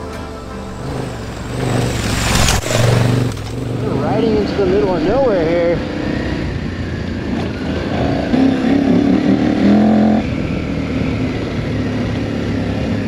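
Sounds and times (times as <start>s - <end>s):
motorcycle engine revving: 0.5s - 13.0s.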